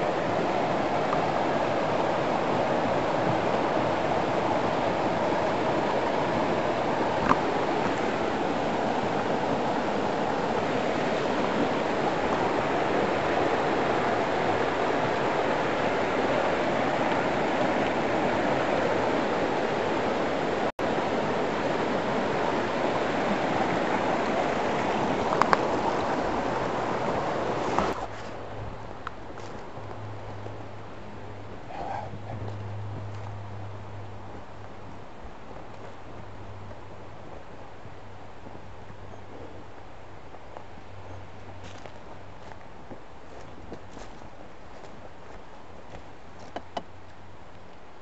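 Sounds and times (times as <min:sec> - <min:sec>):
creek flowing: 0:00.0 - 0:48.0.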